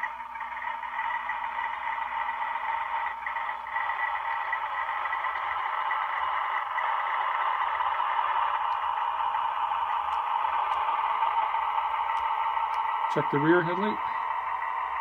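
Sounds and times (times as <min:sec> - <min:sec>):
diesel engine sound from tinny speaker: 0:00.0 - 0:15.0.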